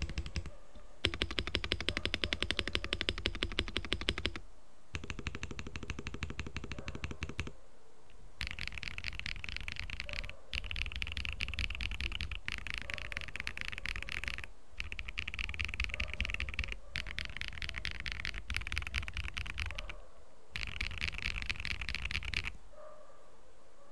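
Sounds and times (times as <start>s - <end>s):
mechanical keyboard typing: 0.0s - 4.4s, 5.0s - 7.6s, 8.4s - 20.0s, 20.6s - 22.6s.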